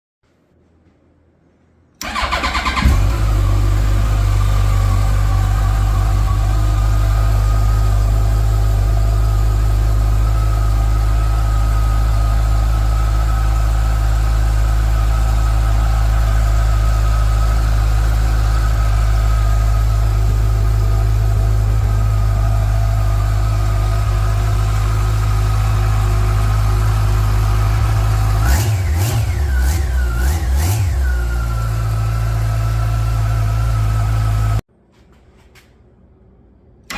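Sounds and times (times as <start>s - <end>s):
motorcycle engine revving: 2.0s - 34.6s
motorcycle engine starting and idling: 2.0s - 35.8s.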